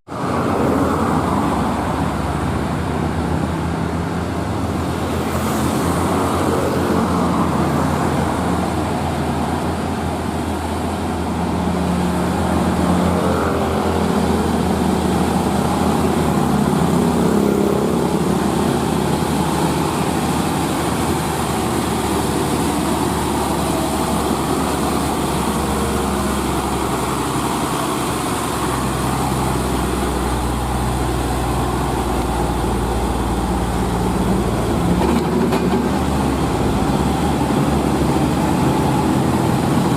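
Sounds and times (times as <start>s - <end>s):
deep drone: 0.1s - 39.9s
diesel truck engine under load: 0.1s - 39.9s.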